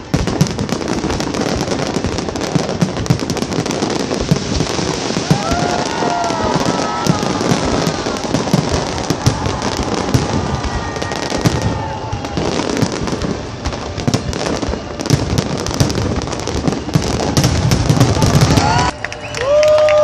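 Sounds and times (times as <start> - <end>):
fireworks whistling: 0.0 - 19.8
fireworks bangs and crackles: 0.0 - 19.9.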